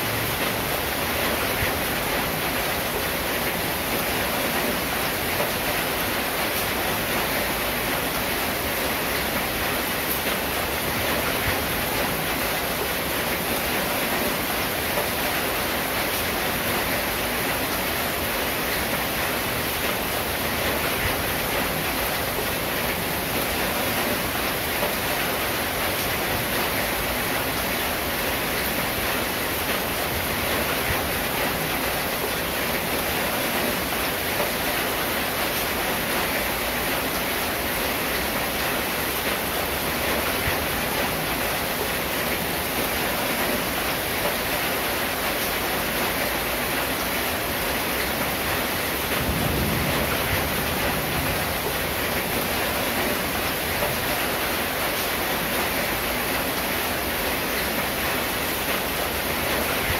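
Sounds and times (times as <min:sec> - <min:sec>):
rain drumming on a metal roof: 0:00.0 - 0:59.9.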